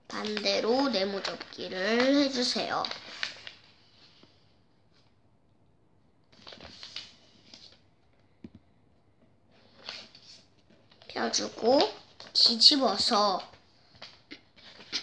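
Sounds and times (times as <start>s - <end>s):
paper rustling and creasing: 0.0s - 5.2s, 6.3s - 8.1s, 9.5s - 15.0s.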